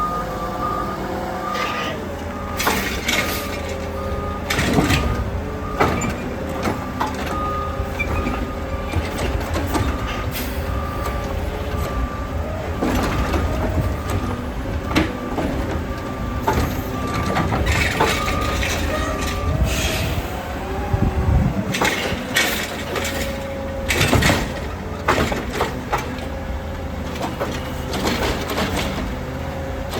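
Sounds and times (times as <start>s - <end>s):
garbage truck engine running: 0.0s - 29.9s.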